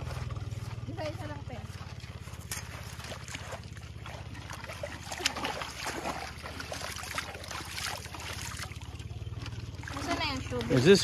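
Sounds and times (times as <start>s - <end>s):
feet splashing in shallow water: 0.0s - 11.0s.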